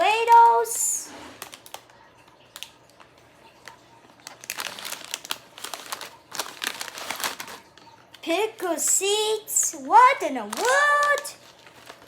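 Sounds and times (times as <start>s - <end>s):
plastic packaging crinkling: 0.0s - 9.3s, 10.0s - 12.0s.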